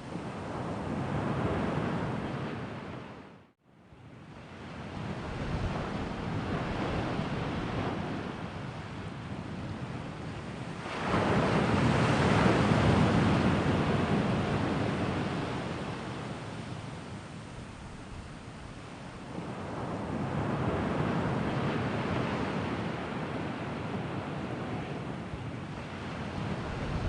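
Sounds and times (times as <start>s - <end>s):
sea waves breaking on shore: 4.4s - 27.0s.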